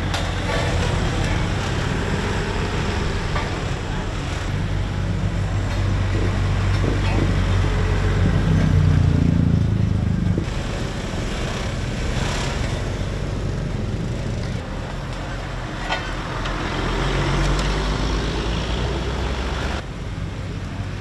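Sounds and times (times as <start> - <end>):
road roller diesel engine running: 0.0 - 21.0.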